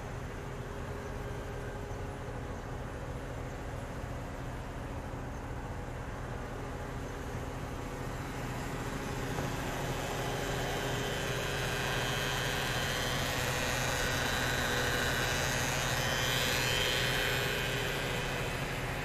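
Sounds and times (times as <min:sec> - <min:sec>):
crane diesel engine running: 0:00.0 - 0:19.0.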